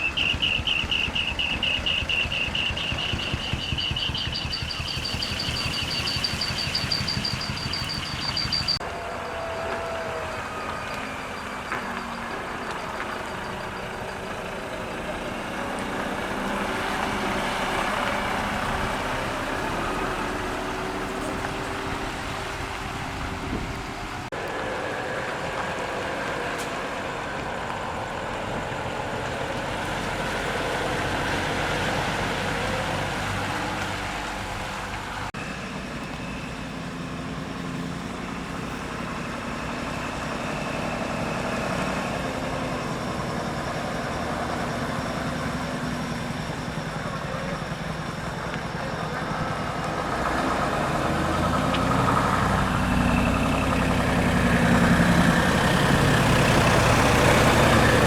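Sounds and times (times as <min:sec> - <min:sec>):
large truck engines running: 0:00.0 - 0:58.0.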